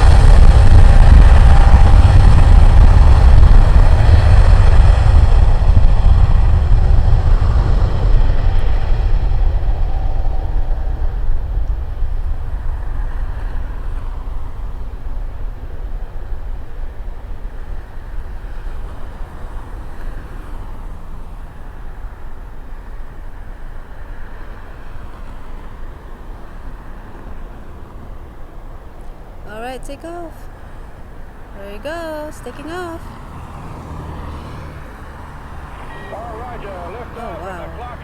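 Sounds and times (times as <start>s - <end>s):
jet airliner engines roaring: 0.0s - 38.0s.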